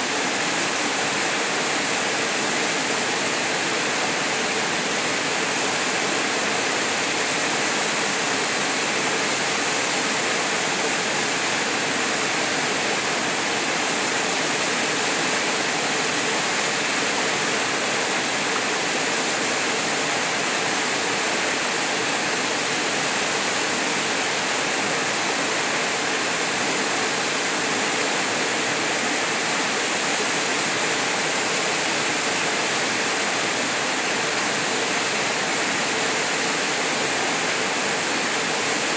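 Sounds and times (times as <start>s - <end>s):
waterfall pouring into pool: 0.0s - 38.9s.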